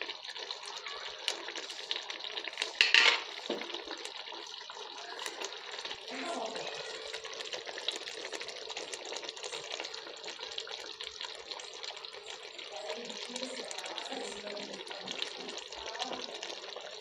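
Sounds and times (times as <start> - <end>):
gravy simmering with crackling pops: 0.0 - 17.0.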